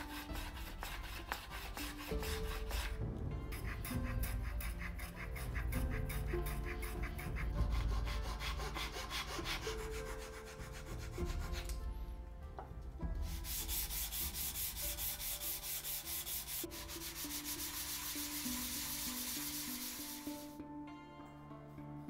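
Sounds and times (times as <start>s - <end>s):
sandpaper rubbing on wood: 0.0s - 11.7s, 13.2s - 20.6s
background music: 0.0s - 22.0s.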